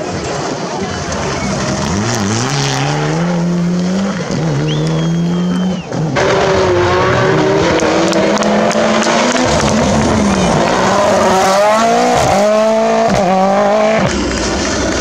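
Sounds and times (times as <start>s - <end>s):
rally car engine accelerating: 0.1s - 15.0s
rally car engine revving high: 0.9s - 15.0s.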